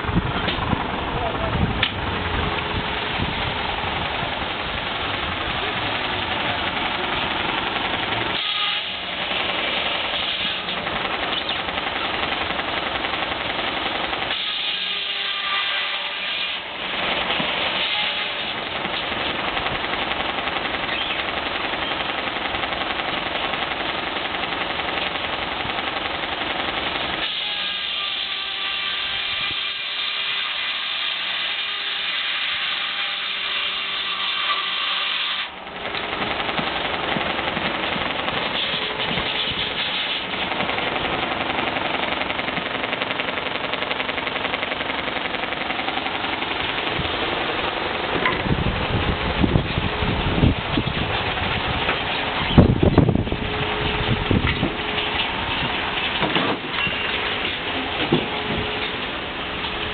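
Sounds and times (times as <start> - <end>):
circular saw mill running: 0.0 - 59.9.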